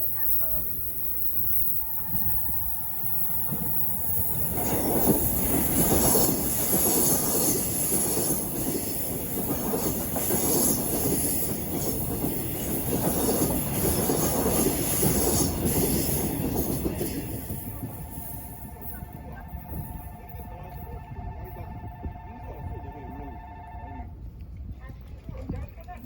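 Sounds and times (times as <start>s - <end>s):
train wheels rumbling on rails: 0.0s - 22.2s.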